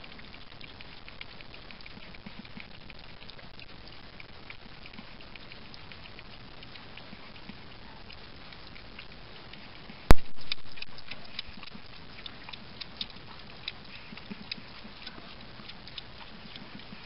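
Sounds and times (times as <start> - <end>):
goat kid suckling from bottle: 0.0 - 17.0.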